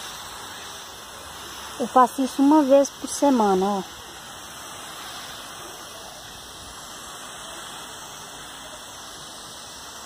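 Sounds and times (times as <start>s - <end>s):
sprayer misting liquid: 0.0s - 10.0s.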